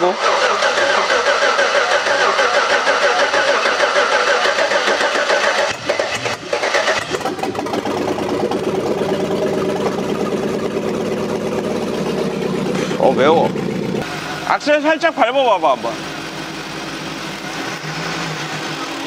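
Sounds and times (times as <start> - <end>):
engine cranking and idling: 0.0 - 19.0.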